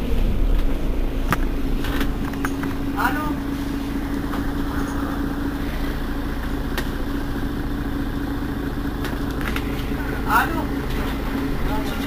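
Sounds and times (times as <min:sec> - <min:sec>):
bus engine hum: 0:00.0 - 0:12.0.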